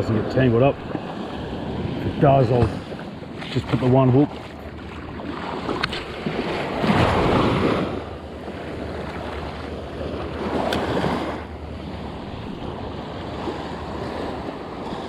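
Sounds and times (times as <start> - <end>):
waves washing on beach: 0.0 - 15.0
wind buffeting microphone: 0.0 - 15.0.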